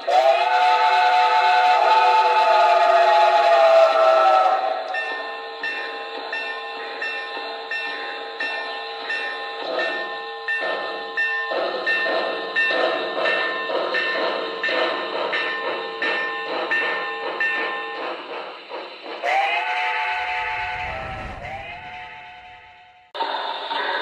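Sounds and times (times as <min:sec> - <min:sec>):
steam train chuffing: 0:00.0 - 0:24.0.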